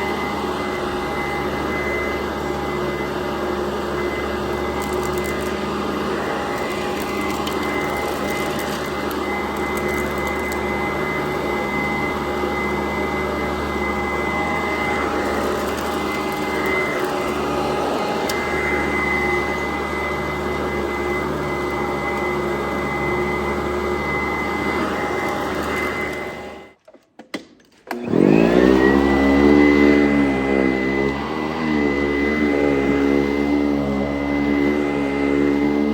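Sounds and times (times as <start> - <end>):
upright vacuum cleaner whining: 0.0 - 35.9.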